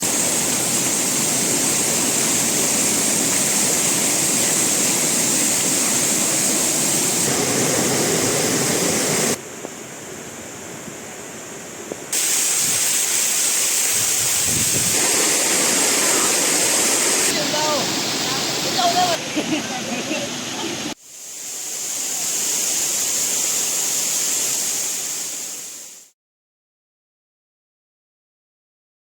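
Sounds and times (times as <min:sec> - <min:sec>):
waterfall rushing water: 0:00.0 - 0:26.1.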